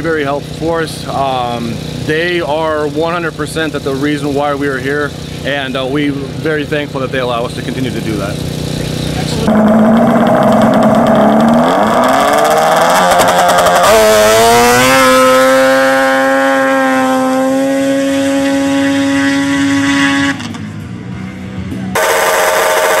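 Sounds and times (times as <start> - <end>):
snowmobile engine at full throttle: 0.0 - 23.0.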